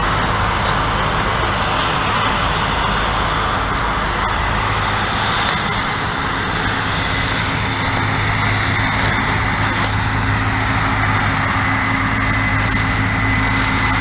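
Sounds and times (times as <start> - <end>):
brush rustling: 0.0 - 1.8, 2.8 - 14.0
combine harvesters droning: 0.0 - 14.0.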